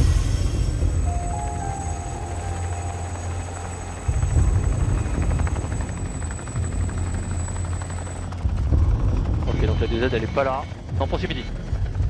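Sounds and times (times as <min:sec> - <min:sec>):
helicopter engine noise: 0:00.0 - 0:12.0
helicopter rotor chop: 0:00.0 - 0:12.0.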